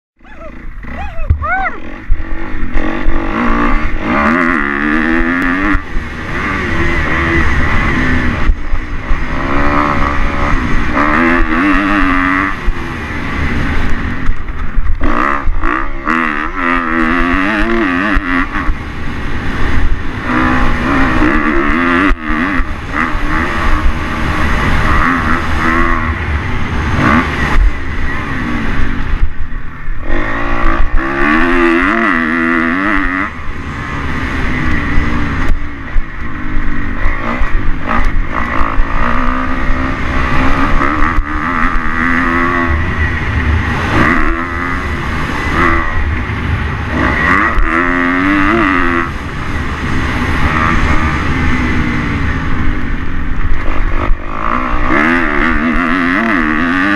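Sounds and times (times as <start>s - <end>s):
motocross bike engine revving: 0.2s - 56.9s.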